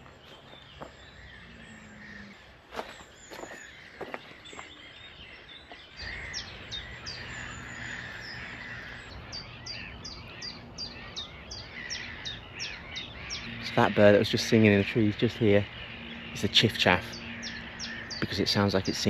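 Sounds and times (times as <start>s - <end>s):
bird singing chiff-chaff notes: 0.0s - 19.0s.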